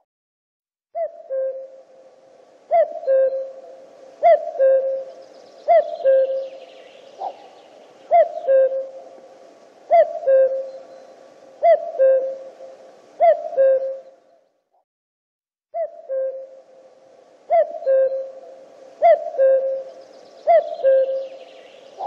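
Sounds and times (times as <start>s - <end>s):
cuckoo calling: 1.0s - 14.4s, 15.8s - 22.0s.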